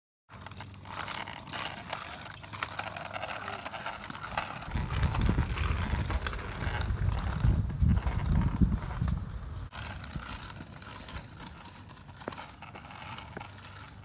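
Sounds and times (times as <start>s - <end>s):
scooter wheels clacking on concrete: 0.3s - 14.0s.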